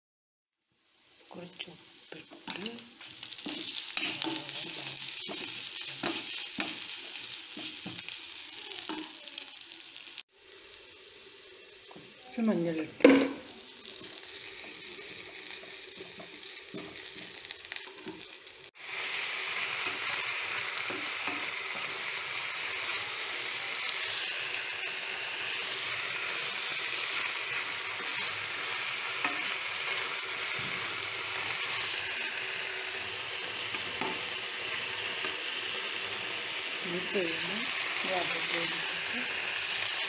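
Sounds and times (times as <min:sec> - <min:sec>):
onions sizzling in hot oil: 0:00.6 - 0:40.0.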